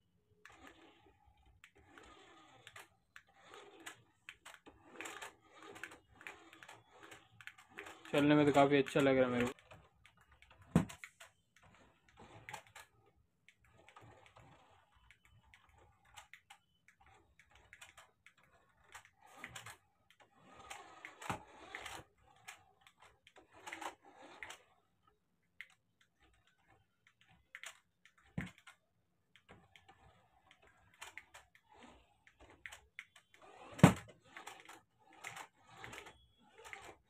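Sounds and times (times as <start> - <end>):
toy car motor whirring: 0.3 - 37.0.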